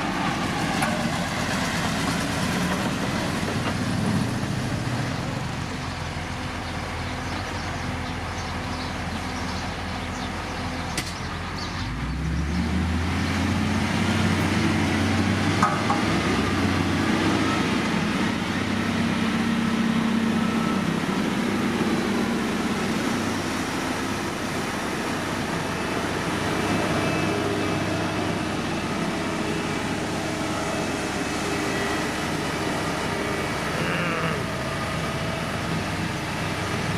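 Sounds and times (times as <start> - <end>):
diesel engine of heavy machinery: 0.0 - 36.9.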